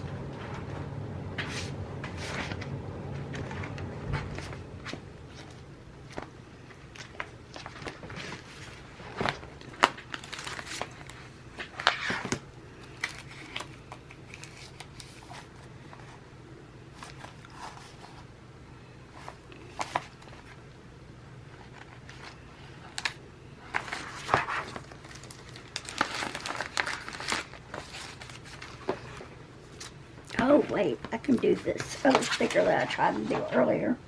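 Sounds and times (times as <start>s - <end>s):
paper crinkling and rustling: 1.4s - 16.2s, 16.9s - 18.3s, 19.1s - 20.6s, 21.5s - 33.4s.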